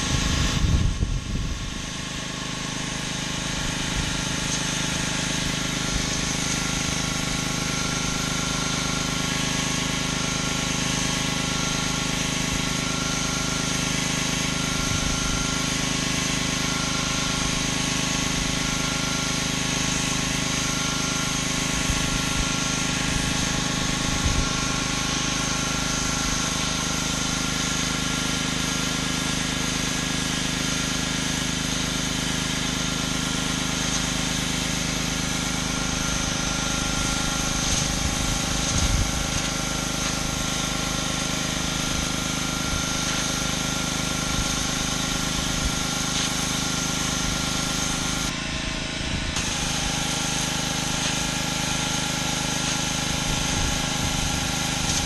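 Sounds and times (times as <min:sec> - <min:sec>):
water spray hissing on concrete: 0:00.0 - 0:48.3, 0:49.4 - 0:55.0
pressure washer engine drone: 0:00.0 - 0:55.0.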